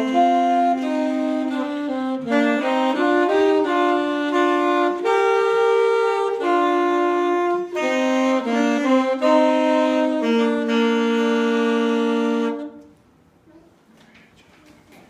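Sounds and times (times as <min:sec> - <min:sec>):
solo wind instrument melody: 0:00.0 - 0:12.9.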